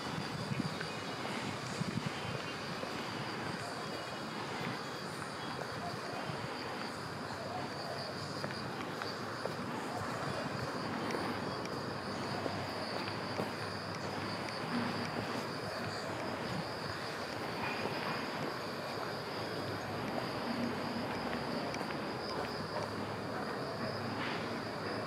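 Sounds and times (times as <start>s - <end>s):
distant city traffic: 0.0s - 25.0s
insects chirring: 0.0s - 25.0s.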